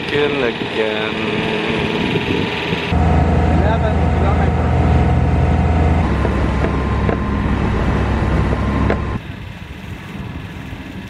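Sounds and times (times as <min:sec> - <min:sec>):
diesel engine running: 0:00.0 - 0:09.2
wind: 0:00.0 - 0:11.0.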